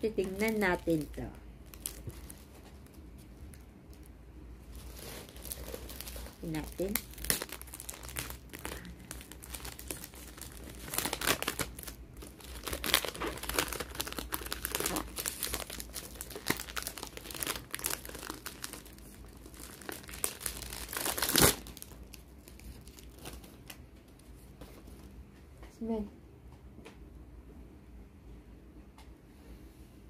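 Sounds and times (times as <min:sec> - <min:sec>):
plastic wrap and paper rustling: 0:00.0 - 0:25.2.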